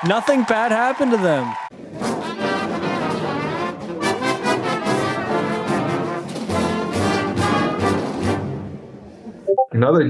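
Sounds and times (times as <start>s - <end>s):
brass marching band: 0.0s - 8.7s.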